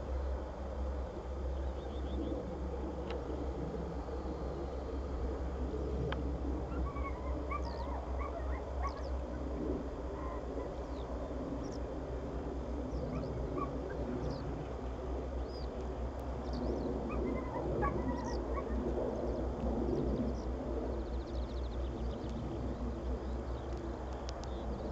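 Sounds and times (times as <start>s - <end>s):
steady low rumble: 0.0s - 24.9s
birds chirping: 1.3s - 2.7s, 3.9s - 24.9s.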